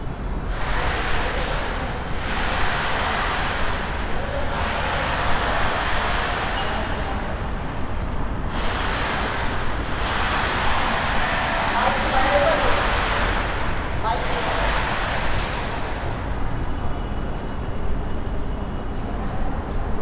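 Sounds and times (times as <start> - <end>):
road traffic rumble: 0.0 - 20.0
vehicles whooshing past: 0.5 - 16.8.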